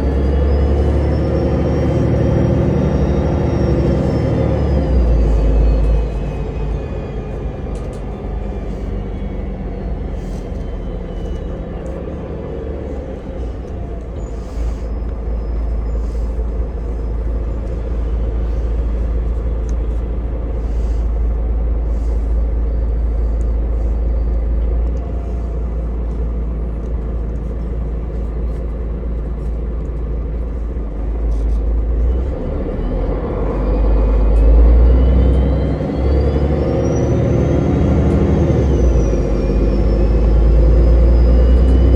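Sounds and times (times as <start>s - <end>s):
bus engine and road rumble: 0.0s - 41.9s.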